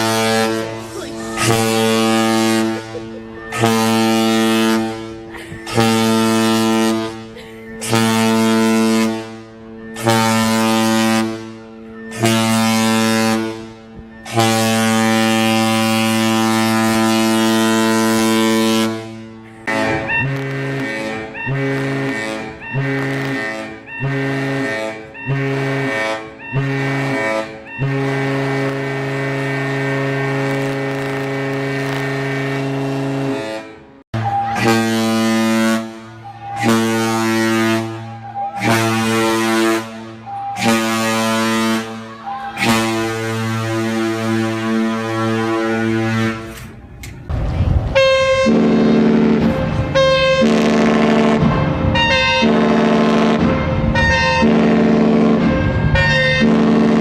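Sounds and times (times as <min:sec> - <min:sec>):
ship horn blasts: 0:00.0 - 0:57.0.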